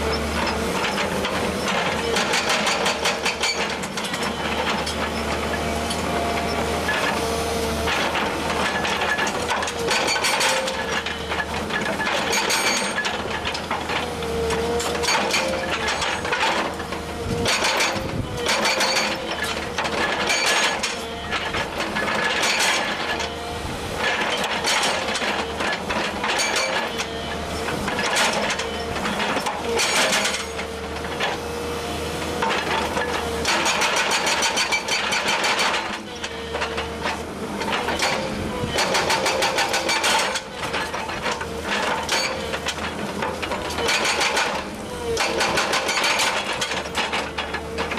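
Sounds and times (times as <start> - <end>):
hydraulic breaker hammering rock: 0.0 - 47.9.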